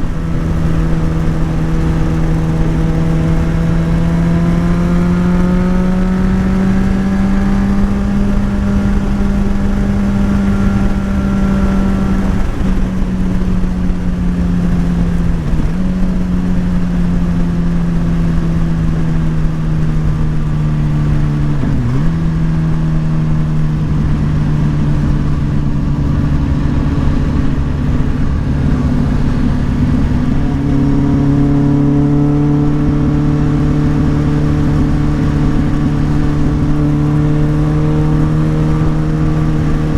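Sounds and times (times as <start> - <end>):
motorcycle engine cruising: 0.0 - 39.9
rushing wind: 0.0 - 39.9.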